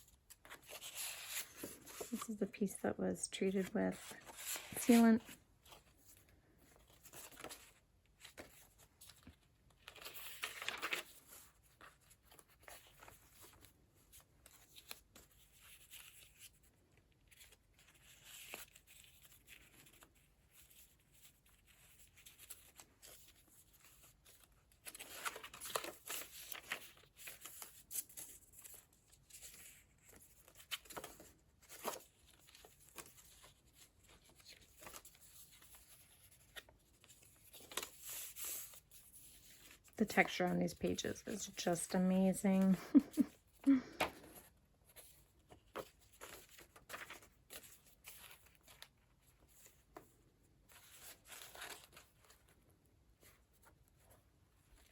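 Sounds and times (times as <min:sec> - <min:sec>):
paper pages rustling and crinkling: 0:00.0 - 0:54.9.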